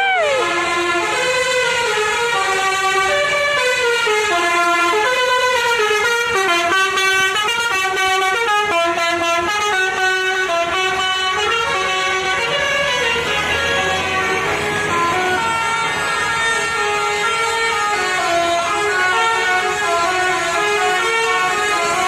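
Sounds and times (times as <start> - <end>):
musical bus air horn melody: 0.0 - 22.0.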